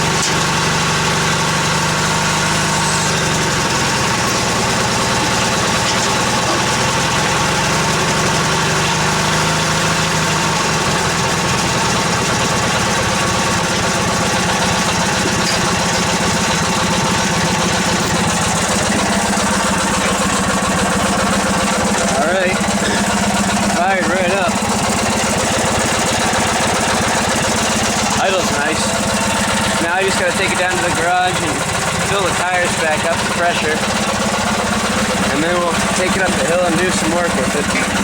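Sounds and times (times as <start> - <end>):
lawn tractor engine idling: 0.0 - 38.0.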